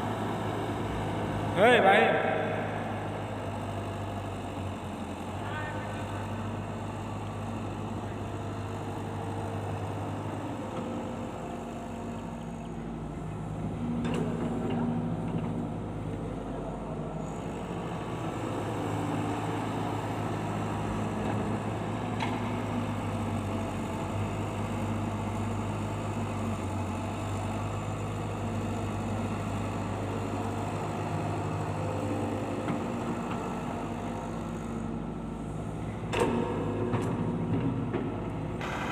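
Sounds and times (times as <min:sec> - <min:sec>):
heavy machinery engines running: 0:00.0 - 0:38.9.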